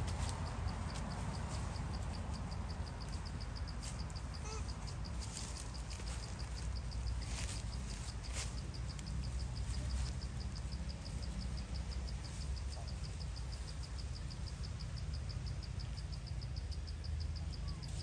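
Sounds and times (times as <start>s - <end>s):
insect chirping: 0.0s - 18.0s
steady low rumble: 0.0s - 18.0s.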